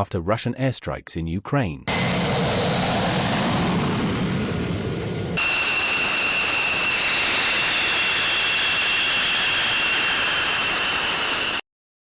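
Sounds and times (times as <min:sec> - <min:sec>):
high-pitched engine whine: 0:01.9 - 0:11.6
jet engine roaring: 0:01.9 - 0:11.6.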